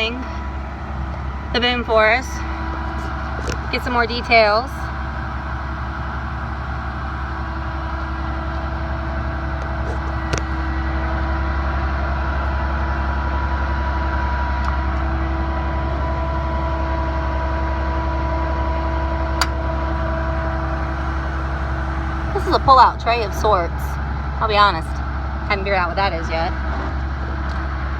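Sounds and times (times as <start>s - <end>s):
hydraulic whine: 0.0s - 12.7s, 14.2s - 26.2s
diesel engine running: 0.0s - 27.9s.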